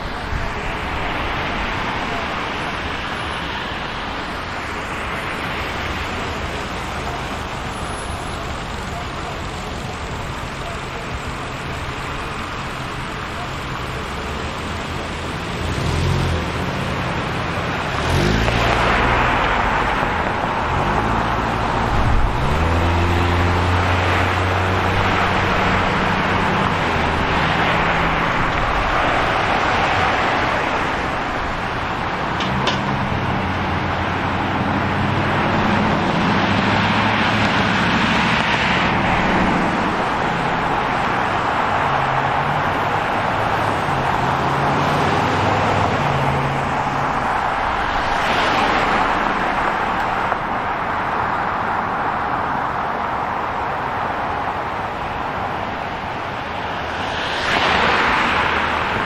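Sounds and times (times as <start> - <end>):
cars passing: 0.0 - 59.0
engines speeding up: 0.0 - 59.0.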